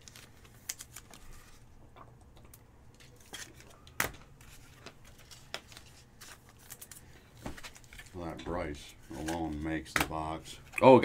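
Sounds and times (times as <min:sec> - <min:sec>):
cards and packaging clicks and rustles: 0:00.0 - 0:11.0.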